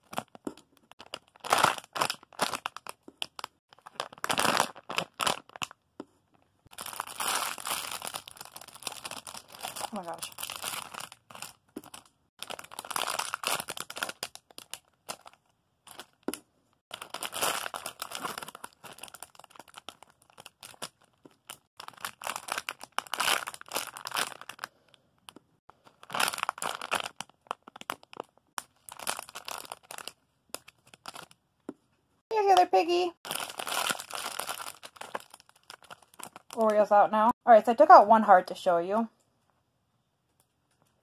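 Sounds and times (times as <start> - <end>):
plastic crinkling and rustling: 0.0 - 5.8, 6.7 - 24.8, 25.8 - 31.4, 33.2 - 36.8.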